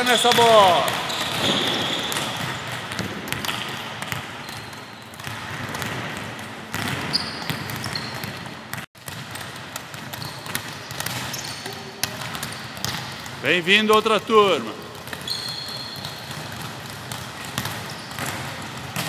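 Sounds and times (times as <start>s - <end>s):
balls struck by players: 0.0s - 19.0s
volleyballs bouncing on wooden floor: 0.0s - 19.0s.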